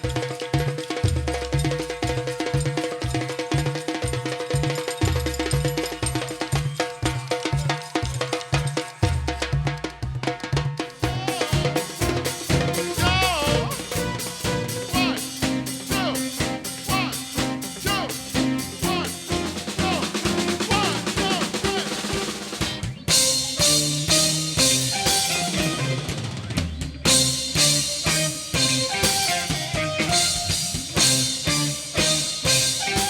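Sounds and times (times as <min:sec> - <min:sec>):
reggae band music: 0:00.0 - 0:33.0.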